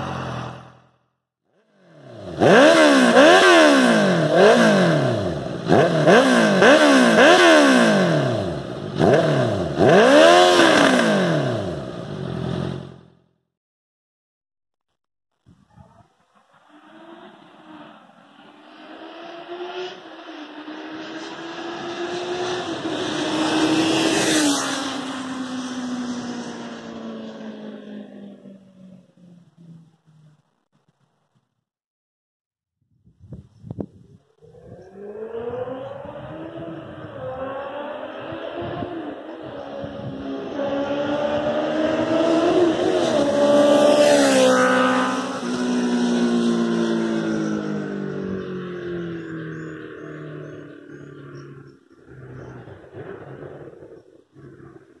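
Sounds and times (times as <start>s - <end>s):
motorcycle passing by: 0.0s - 1.0s, 1.8s - 13.2s, 15.9s - 30.4s, 34.4s - 55.0s.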